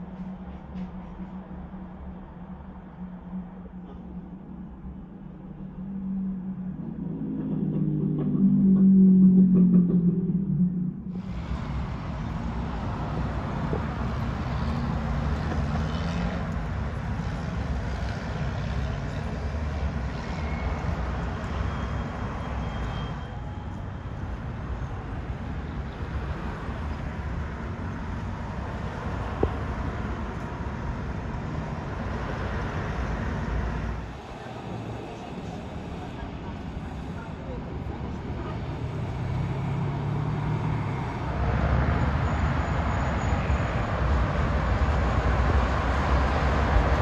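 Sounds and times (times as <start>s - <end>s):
car engines and tyre noise: 0.0s - 47.0s.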